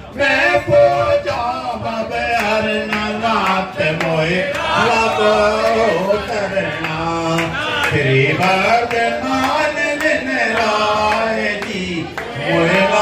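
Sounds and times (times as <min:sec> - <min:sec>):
hymn singing with accompaniment: 0:00.0 - 0:13.0.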